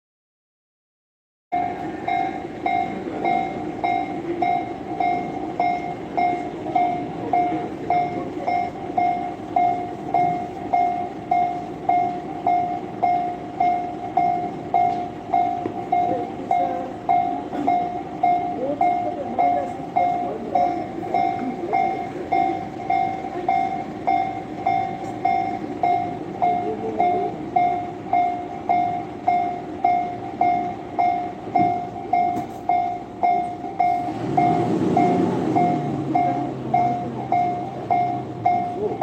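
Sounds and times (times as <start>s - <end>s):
level crossing bell dinging: 1.5s - 39.0s
train rumbling past: 1.5s - 39.0s.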